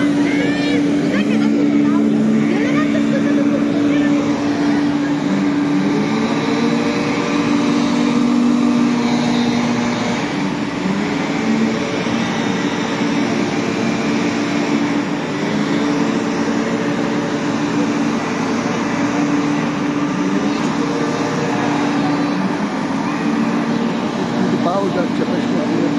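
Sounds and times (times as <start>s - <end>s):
street sweeper truck drone: 0.0s - 25.9s.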